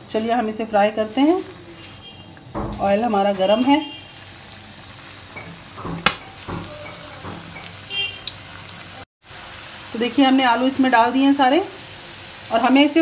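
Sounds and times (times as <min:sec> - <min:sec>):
potatoes deep-frying in oil: 0:00.0 - 0:13.0.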